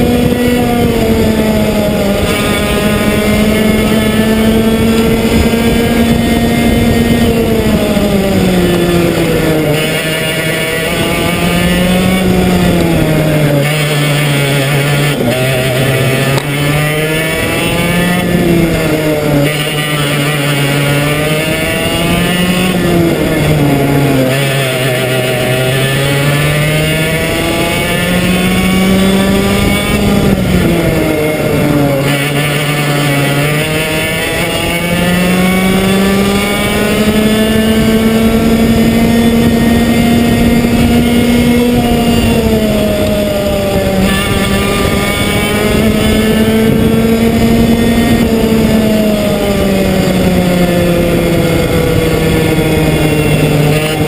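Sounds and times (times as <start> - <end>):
kart engine racing: 0.0 - 54.0
wind and track noise hiss: 0.0 - 54.0.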